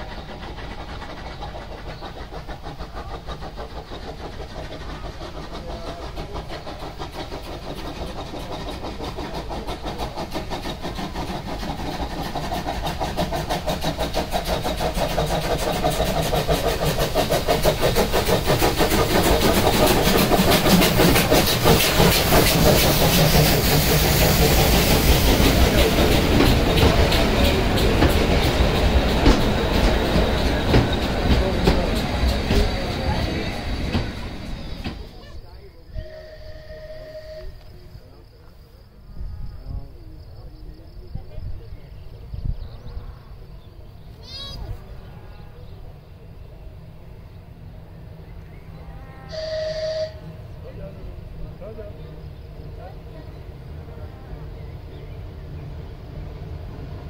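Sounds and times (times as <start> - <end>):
steam locomotive exhaust beats: 0.0 - 57.0
train wheels rattling on rails: 0.0 - 57.0.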